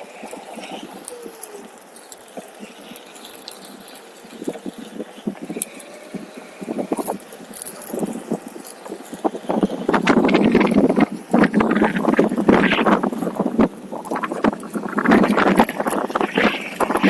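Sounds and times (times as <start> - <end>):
electric board rattling over rough trail: 0.0 - 17.0.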